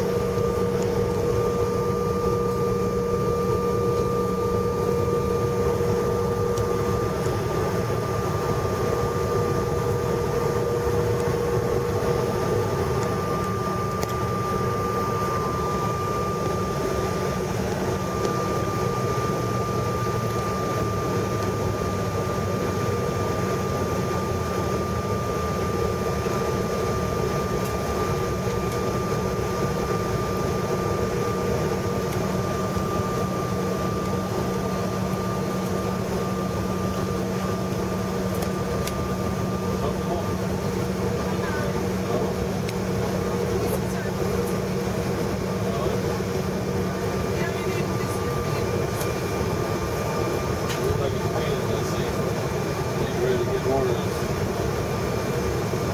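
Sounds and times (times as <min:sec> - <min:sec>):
jet engines idling hum: 0:00.0 - 0:55.9
thin constant whine: 0:00.0 - 0:55.9.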